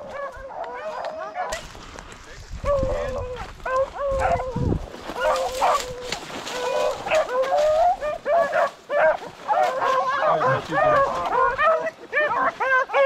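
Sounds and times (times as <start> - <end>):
hounds barking and baying: 0.0 - 1.7, 2.6 - 13.0.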